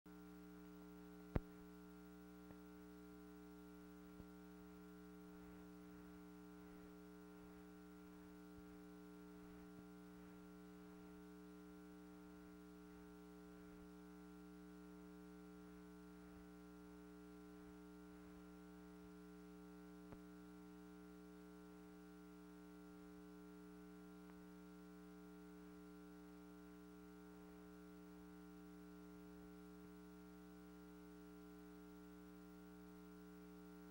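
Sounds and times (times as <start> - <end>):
faint electrical hum: 0.1 - 33.9.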